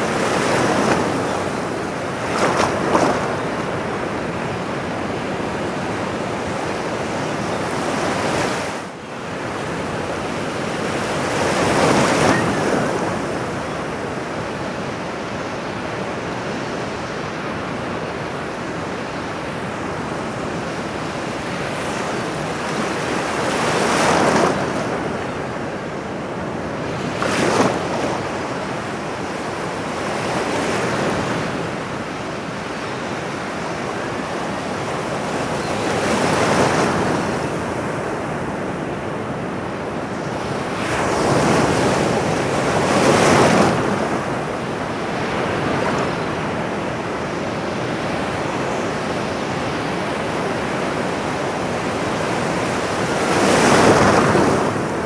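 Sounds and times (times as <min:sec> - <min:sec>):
ocean surf washing: 0:00.0 - 0:17.4, 0:18.0 - 0:55.0.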